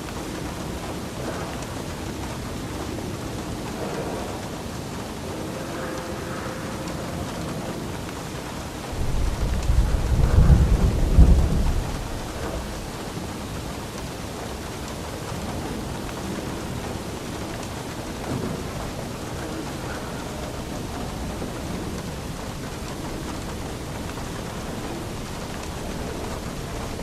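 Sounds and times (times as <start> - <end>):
steady rain: 0.0 - 27.0
thunder rumbling: 0.0 - 27.0.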